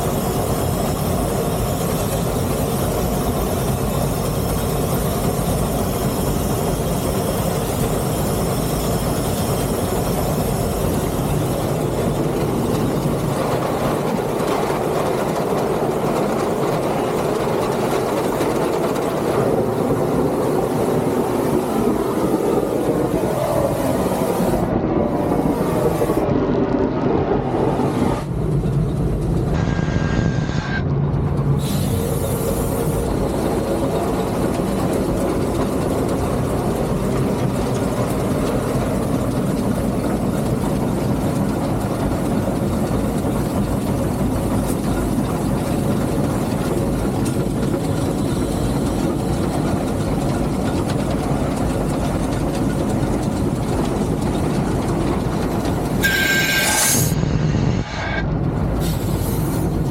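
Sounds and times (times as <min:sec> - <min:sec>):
steam locomotive rumble: 0:00.0 - 0:59.9.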